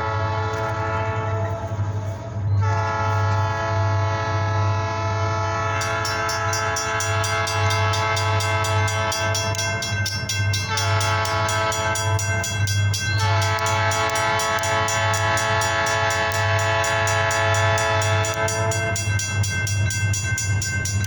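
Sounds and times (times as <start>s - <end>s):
locomotive air horn: 0.0s - 19.3s
diesel engines throbbing: 0.0s - 21.0s.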